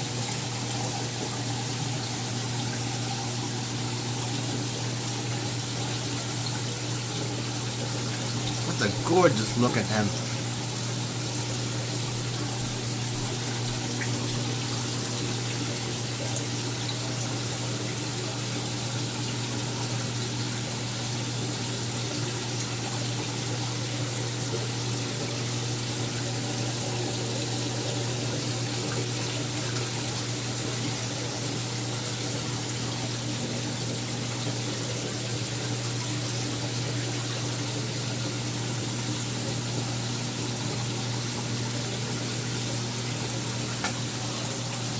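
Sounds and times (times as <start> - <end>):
aquarium pump hum: 0.0 - 44.9
circulating water rushing: 0.0 - 44.9.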